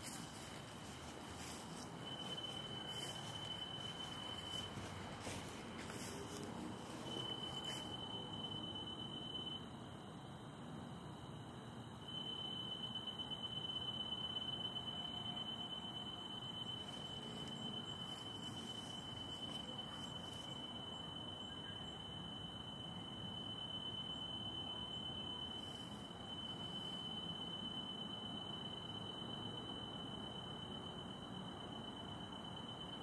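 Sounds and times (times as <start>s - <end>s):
faint background hiss: 0.0s - 33.0s.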